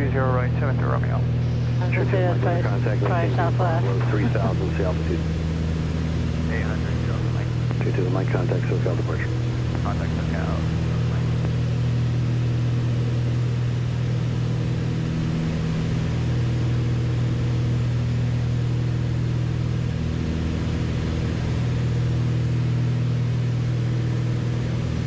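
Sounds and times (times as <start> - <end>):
aircraft engines humming: 0.0 - 25.0.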